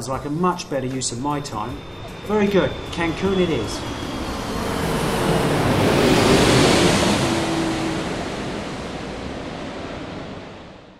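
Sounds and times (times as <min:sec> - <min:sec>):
jet airliner passing overhead: 0:00.0 - 0:10.9.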